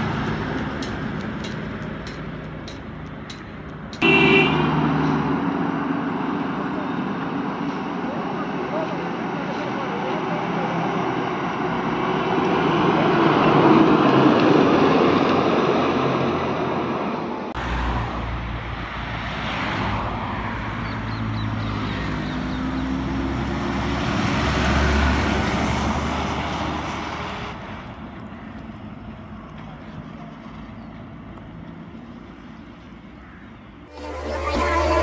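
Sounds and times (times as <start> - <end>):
buses driving past: 0.0 - 35.0.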